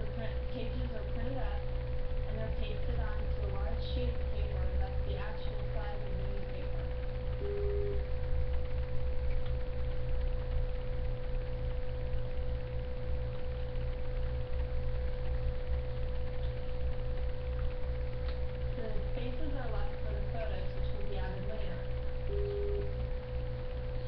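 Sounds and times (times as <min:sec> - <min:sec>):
low electrical hum: 0:00.0 - 0:24.0
steady tone: 0:00.0 - 0:24.0.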